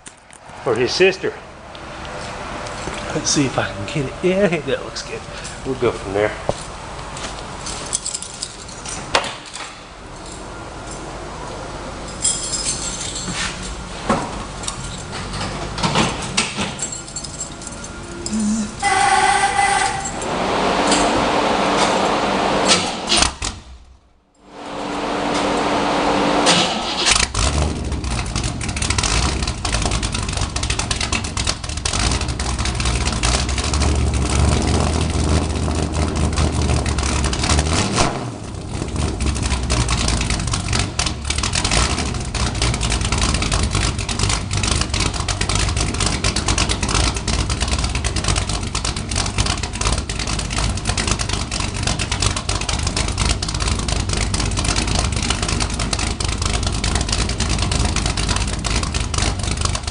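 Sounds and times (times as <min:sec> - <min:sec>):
car engine running loud: 0:00.0 - 0:18.9, 0:19.6 - 0:59.9.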